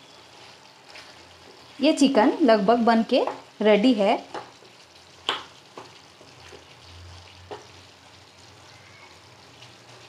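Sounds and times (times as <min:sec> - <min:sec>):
gravy sizzling: 0:00.0 - 0:10.0.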